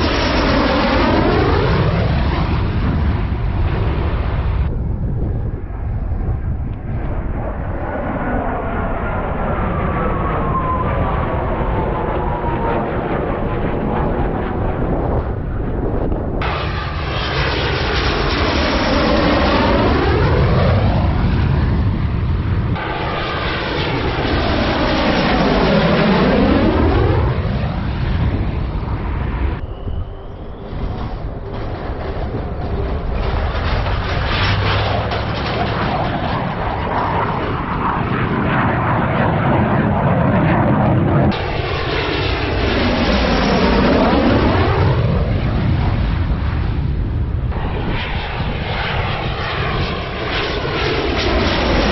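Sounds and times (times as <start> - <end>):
jet aircraft passing overhead: 0.0 - 51.9.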